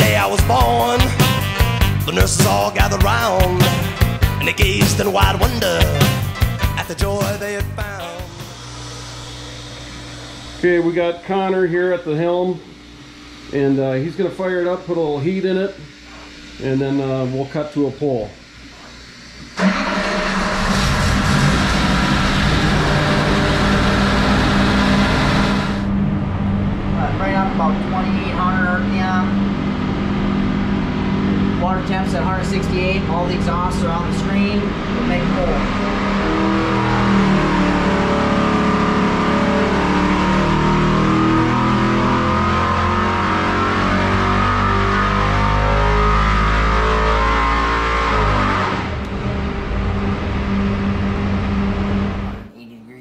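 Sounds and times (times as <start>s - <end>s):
race engine running: 0.0s - 17.7s, 19.5s - 52.4s.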